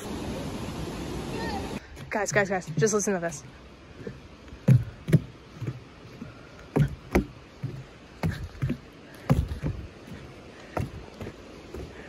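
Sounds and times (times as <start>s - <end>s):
footsteps on wooden planks: 1.8s - 12.0s.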